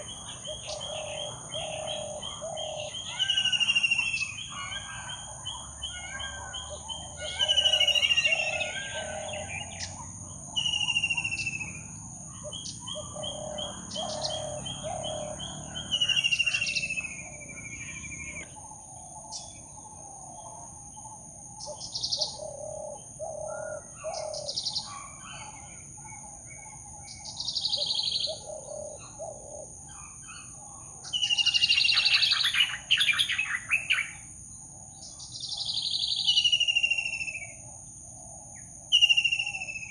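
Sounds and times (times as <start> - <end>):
cooing calls: 0.0 - 34.2
loud chattering bird calls: 0.0 - 39.9.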